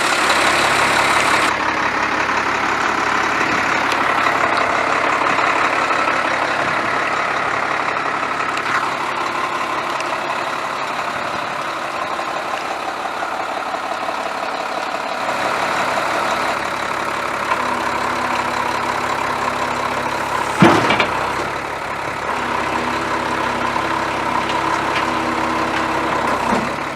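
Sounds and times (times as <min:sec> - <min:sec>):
diesel truck engine idling: 0:00.0 - 0:26.9.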